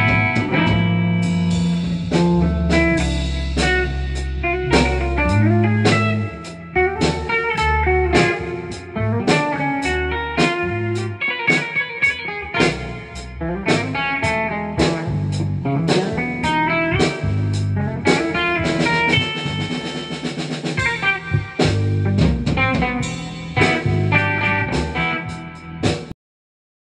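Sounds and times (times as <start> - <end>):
bass guitar notes: 0.0 - 26.1
drum kit hits: 0.0 - 26.1
electric guitar lines: 0.0 - 26.1.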